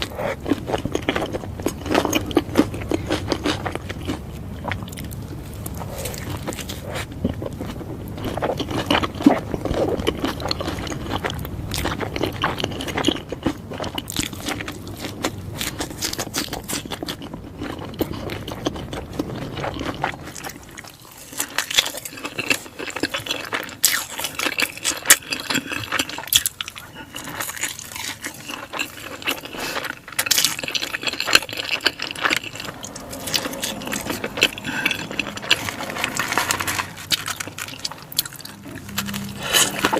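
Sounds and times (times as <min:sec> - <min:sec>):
chewing with crunches: 0:00.0 - 0:39.9.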